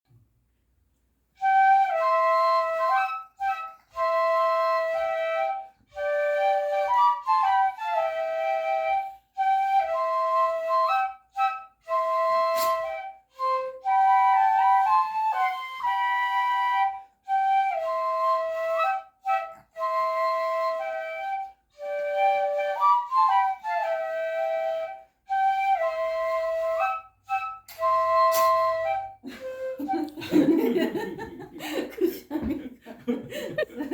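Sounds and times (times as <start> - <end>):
flute melody: 1.3 - 31.4.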